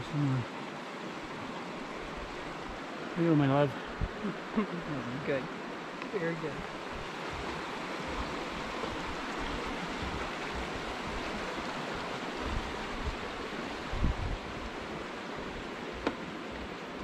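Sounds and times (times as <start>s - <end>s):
creek rushing over rocks: 0.0s - 17.0s.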